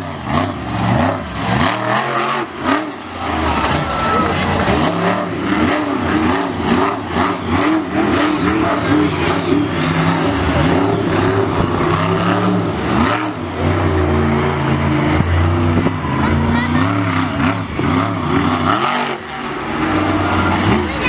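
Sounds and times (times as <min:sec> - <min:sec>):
big engine revving: 0:00.0 - 0:21.0.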